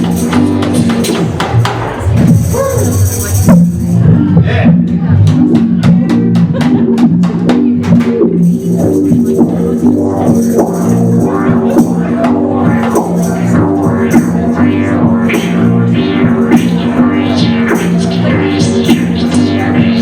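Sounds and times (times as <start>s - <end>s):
held low tones: 0.0s - 20.0s.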